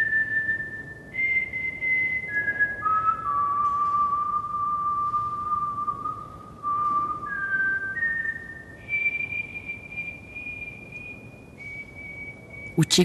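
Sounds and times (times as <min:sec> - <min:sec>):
person whistling a slow melody: 0:00.0 - 0:13.0.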